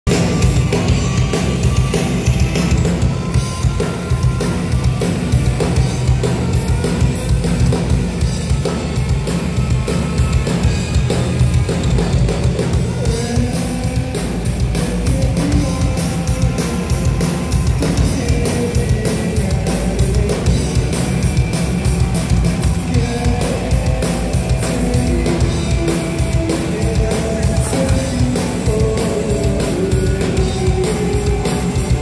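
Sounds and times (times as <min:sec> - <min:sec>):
drum kit: 0:00.0 - 0:32.0
rock band playing live: 0:00.0 - 0:32.0
electric guitars: 0:00.1 - 0:32.0.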